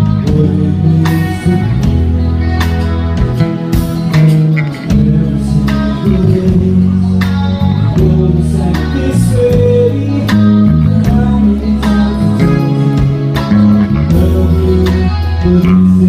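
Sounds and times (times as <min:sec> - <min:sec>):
live band playing slow music: 0:00.0 - 0:16.0
person singing: 0:00.0 - 0:16.0.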